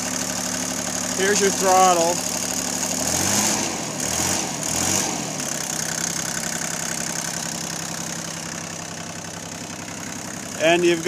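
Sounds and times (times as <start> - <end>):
diesel engine revving and idling: 0.0 - 11.0.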